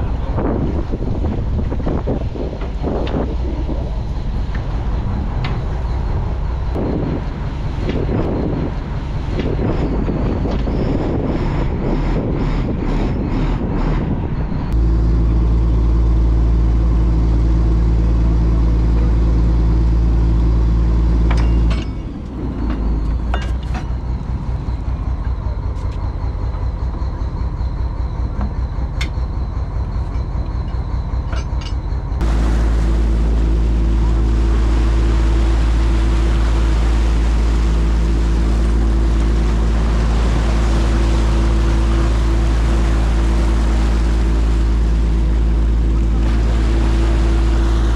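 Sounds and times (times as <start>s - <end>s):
boat engine drone: 0.0s - 47.9s.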